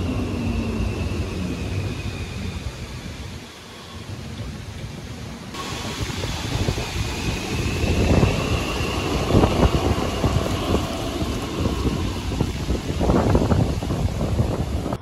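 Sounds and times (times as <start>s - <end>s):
tram passing with high whine: 0.0s - 15.0s
wind buffeting microphone: 0.0s - 15.0s.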